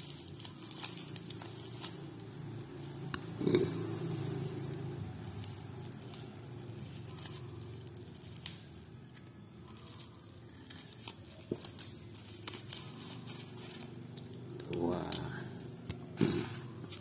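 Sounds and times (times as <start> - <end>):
packaging crinkling and tearing: 0.0 - 17.0.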